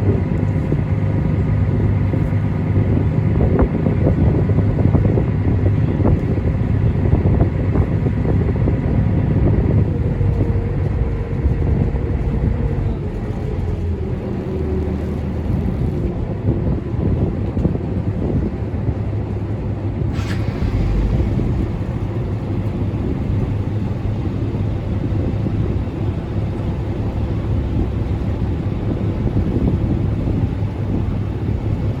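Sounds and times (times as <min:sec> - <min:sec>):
ferry engine rumbling: 0:00.0 - 0:32.0.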